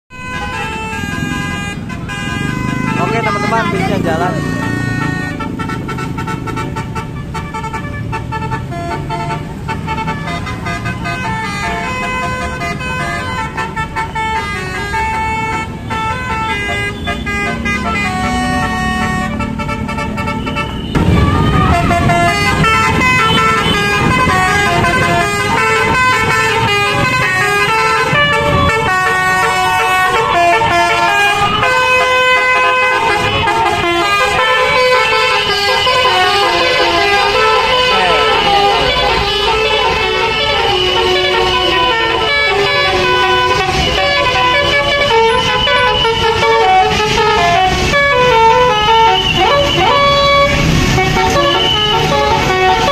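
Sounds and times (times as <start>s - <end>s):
bus horn playing tunes: 0.1s - 52.9s
engine and traffic noise: 0.1s - 52.9s.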